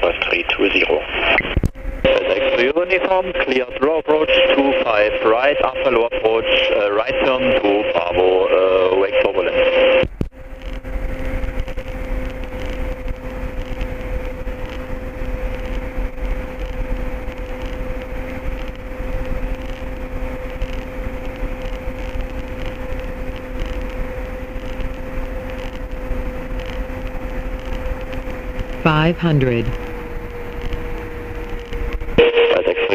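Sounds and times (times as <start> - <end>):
light aircraft engine droning: 0.0 - 32.9.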